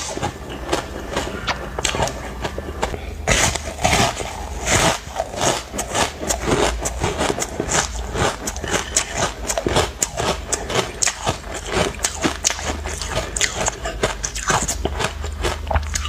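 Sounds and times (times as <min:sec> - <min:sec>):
ice chunks crunching when chewed: 0:00.0 - 0:16.0.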